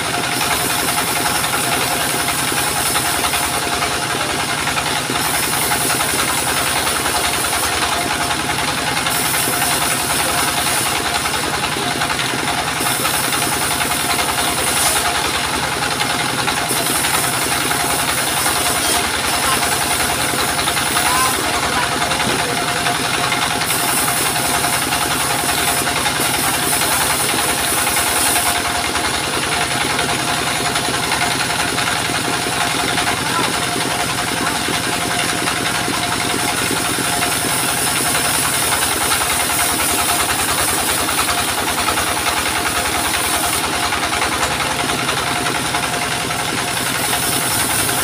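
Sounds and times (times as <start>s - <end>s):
diesel engine running: 0.0s - 48.0s
saw blade cutting log: 0.0s - 48.0s.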